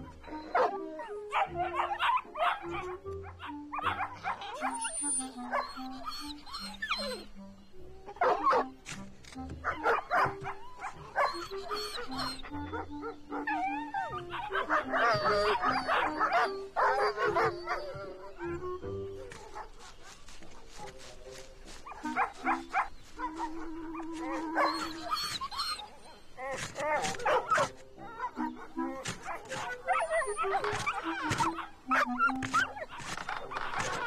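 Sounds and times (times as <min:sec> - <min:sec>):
background score music: 0:00.0 - 0:34.0
dog barking and whining: 0:00.1 - 0:07.3, 0:09.6 - 0:19.7, 0:21.9 - 0:34.0.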